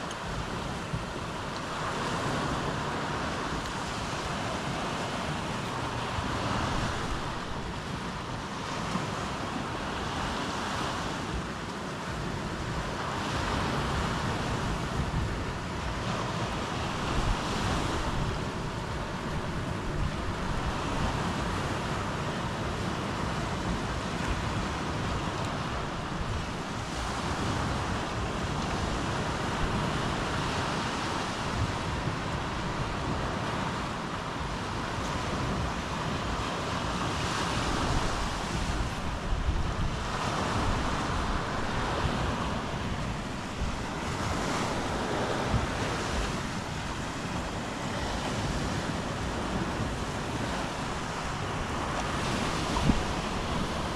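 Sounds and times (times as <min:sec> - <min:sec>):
surf washing on shore: 0:00.0 - 0:53.9
wind buffeting microphone: 0:00.0 - 0:53.9.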